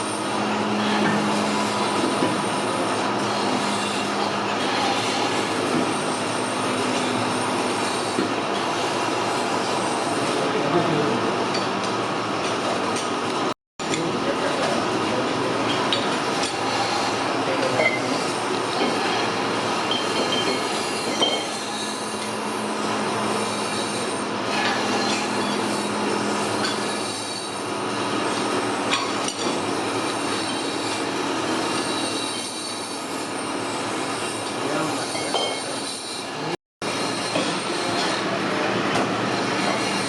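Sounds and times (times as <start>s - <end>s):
metalworking machinery noise: 0.0s - 40.0s.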